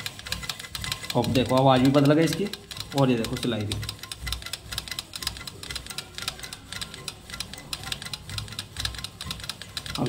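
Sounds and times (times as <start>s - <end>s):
sewing machine stitching: 0.0s - 10.0s.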